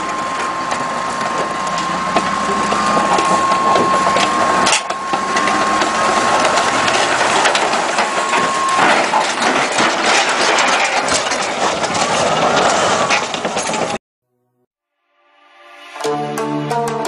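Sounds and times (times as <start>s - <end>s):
steady whine: 0.0s - 14.0s
tracks clanking on steel trailer: 0.0s - 14.0s.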